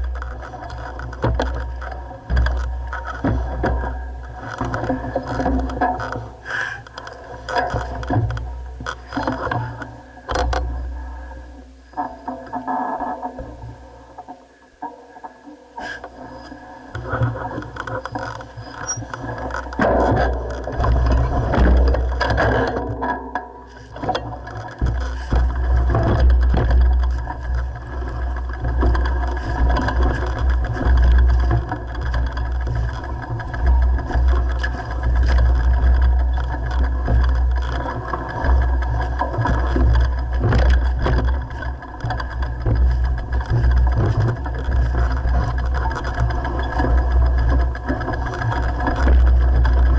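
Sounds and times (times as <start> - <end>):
wind rumble on microphone: 0.0 - 12.0, 16.3 - 49.9
bike rattling over bumps: 0.0 - 15.0, 15.8 - 49.9.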